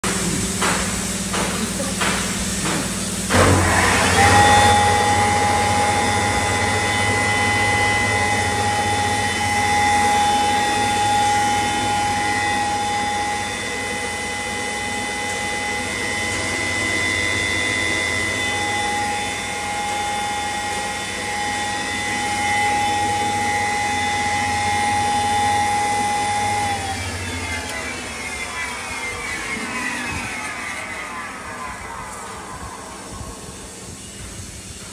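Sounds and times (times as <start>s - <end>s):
grinder motor whining: 3.3s - 34.9s.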